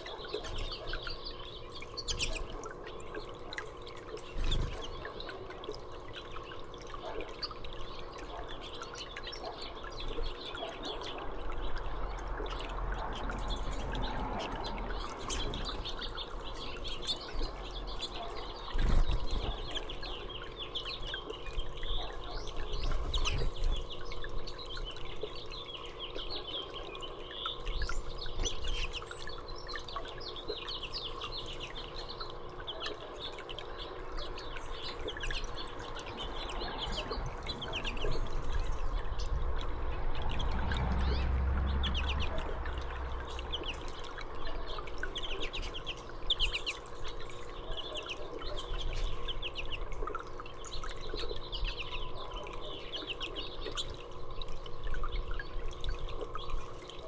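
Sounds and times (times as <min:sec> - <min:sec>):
faint steady hum: 0:00.0 - 0:57.0
songbirds chirping: 0:00.0 - 0:57.0
water trickling: 0:00.0 - 0:57.0.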